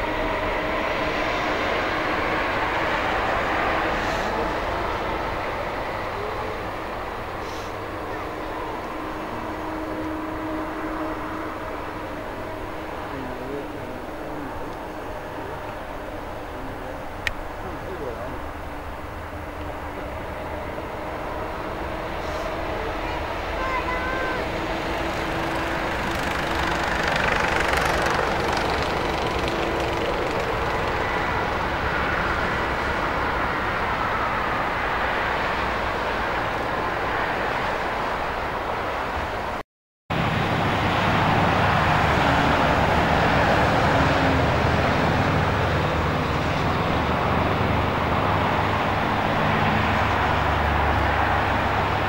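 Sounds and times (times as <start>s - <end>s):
jet engines rushing with whine: 0.0s - 52.0s.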